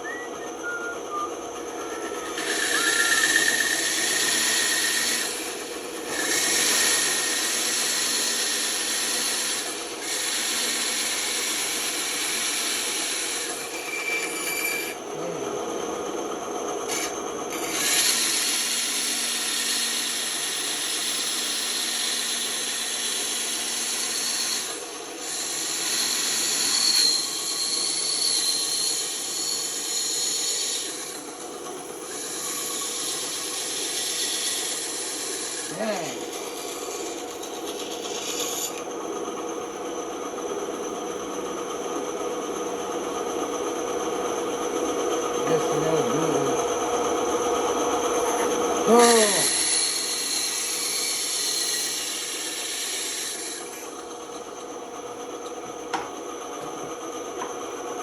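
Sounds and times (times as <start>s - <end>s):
band saw cutting wood: 0.0s - 15.8s, 16.8s - 39.6s, 42.4s - 57.8s.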